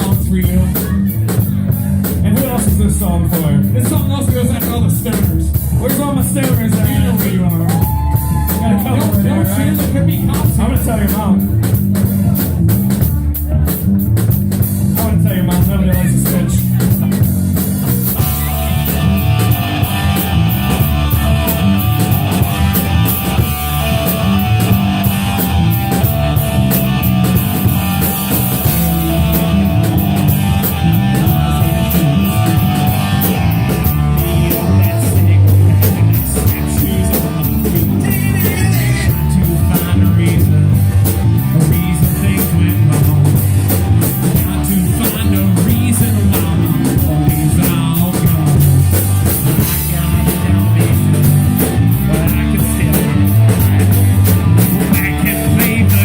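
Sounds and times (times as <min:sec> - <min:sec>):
person singing: 0:00.0 - 0:11.8, 0:15.0 - 0:53.9, 0:54.6 - 0:56.0
drum kit: 0:00.0 - 0:56.0
guitar: 0:00.0 - 0:56.0
live rock band playing: 0:00.0 - 0:56.0.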